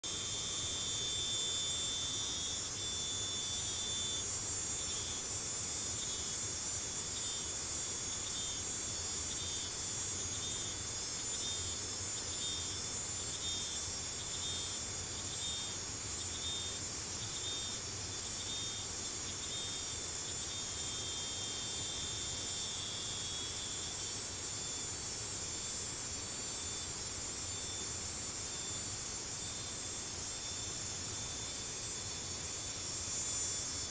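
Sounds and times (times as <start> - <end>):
insects buzzing chorus: 0.0 - 33.9
pulsing high insect call: 0.0 - 33.9.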